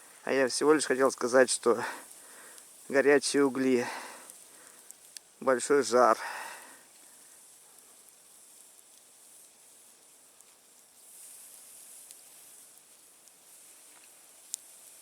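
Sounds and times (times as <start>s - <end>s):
campfire hiss: 0.0s - 15.0s
fire crackles: 0.0s - 15.0s.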